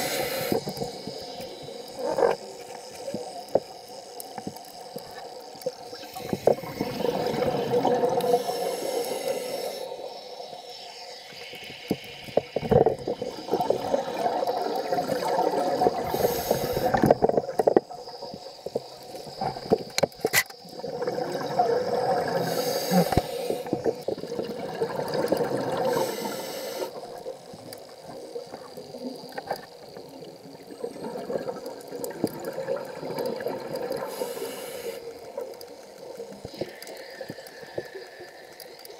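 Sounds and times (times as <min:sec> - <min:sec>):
muffled underwater water rushing: 0:00.0 - 0:38.9.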